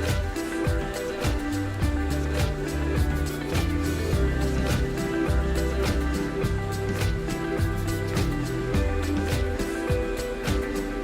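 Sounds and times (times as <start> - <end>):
mellow instrumental music: 0.0 - 11.0.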